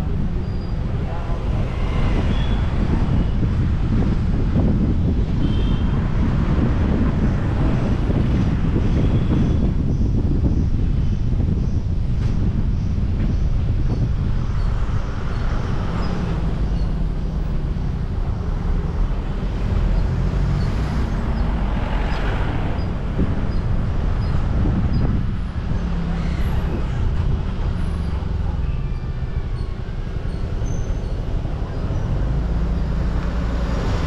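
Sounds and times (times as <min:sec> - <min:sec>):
car engine rumble: 0:00.0 - 0:34.0.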